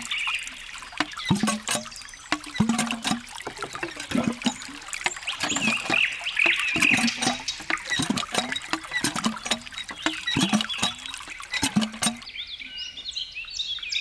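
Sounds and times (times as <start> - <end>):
water trickling and dripping: 0.0 - 12.3.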